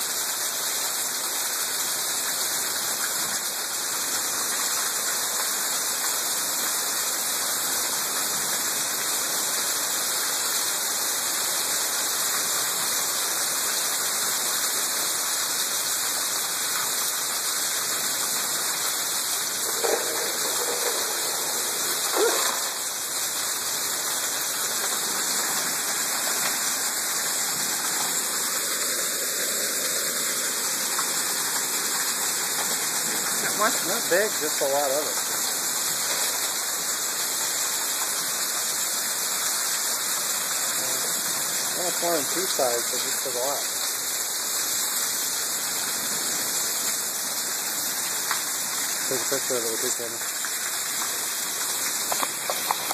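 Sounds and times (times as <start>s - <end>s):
hail and rain falling: 0.0s - 52.9s.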